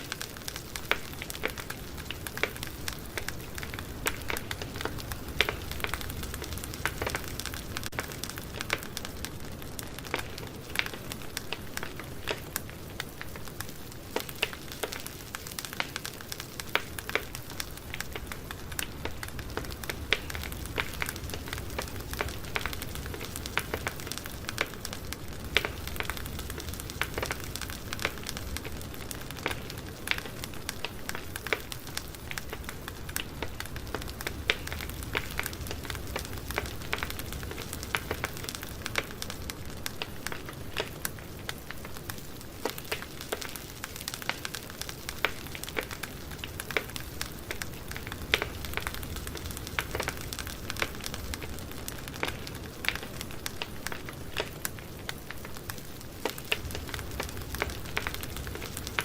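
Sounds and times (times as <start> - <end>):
hiss and rumble of flames: 0.0 - 59.0
wood crackling and popping: 0.0 - 59.0.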